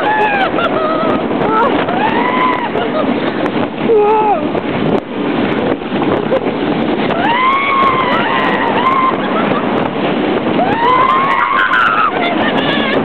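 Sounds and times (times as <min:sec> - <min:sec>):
roller coaster riders screaming: 0:00.0 - 0:04.6, 0:06.1 - 0:13.0
wind rush on microphone: 0:00.0 - 0:13.0.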